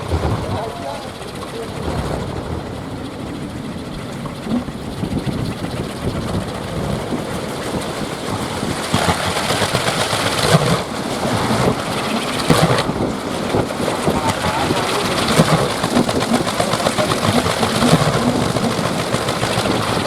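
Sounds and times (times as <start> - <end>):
wind propellers droning: 0.0 - 20.0
wind rush: 0.0 - 20.0.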